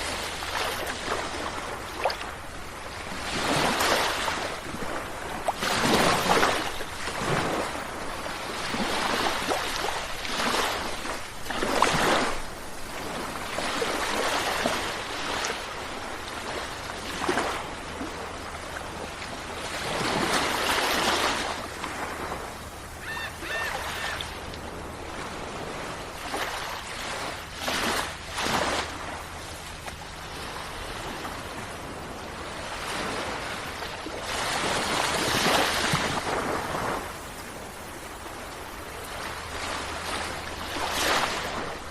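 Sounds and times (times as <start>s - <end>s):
sea waves breaking on shore: 0.0s - 41.9s.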